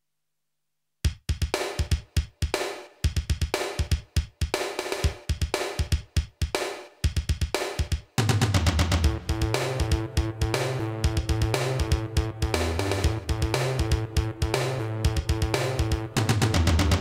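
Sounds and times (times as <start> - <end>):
drum and cymbal hits: 1.1 - 17.0.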